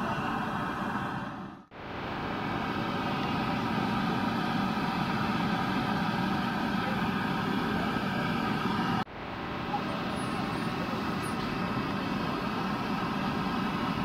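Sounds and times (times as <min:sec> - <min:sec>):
engine-like rumble of street noise: 0:00.0 - 0:14.0.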